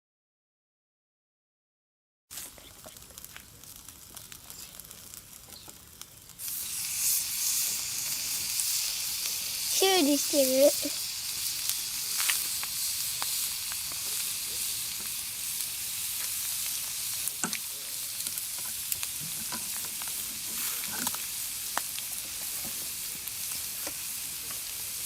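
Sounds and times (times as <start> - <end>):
food frying sizzle: 2.3 - 25.0.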